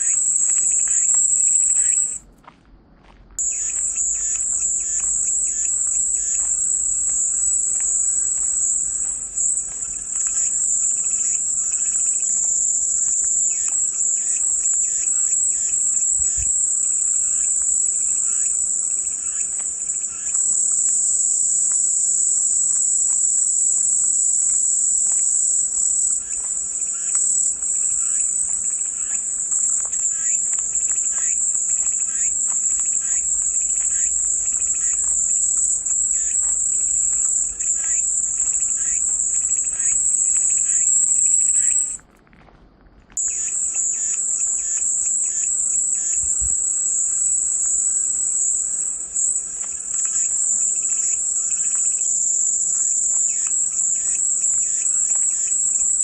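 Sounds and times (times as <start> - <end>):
cicadas buzzing: 0.0 - 2.2, 3.4 - 42.0, 43.2 - 56.0.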